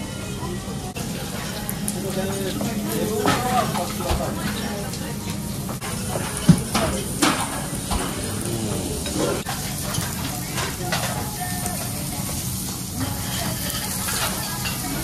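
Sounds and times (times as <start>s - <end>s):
meat sizzling on grill: 0.2s - 15.0s.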